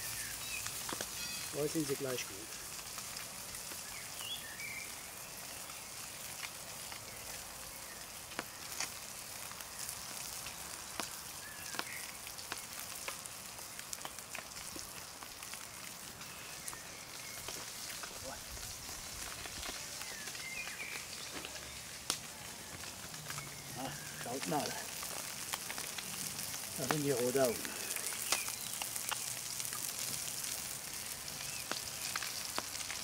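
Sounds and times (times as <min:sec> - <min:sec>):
fish sizzling: 0:00.0 - 0:33.0
wood fire crackling: 0:00.0 - 0:33.0.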